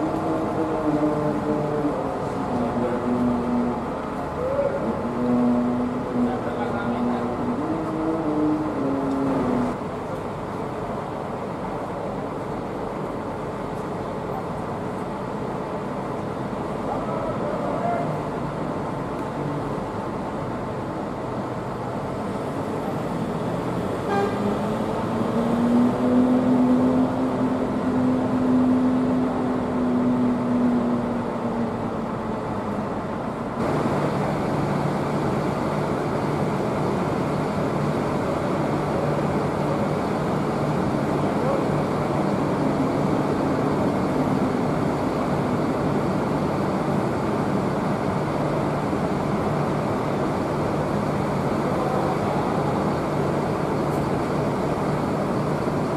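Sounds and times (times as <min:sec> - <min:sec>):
bus engines running: 0:00.0 - 0:55.9
bus passing by: 0:00.0 - 0:55.9
traffic noise: 0:00.0 - 0:55.9.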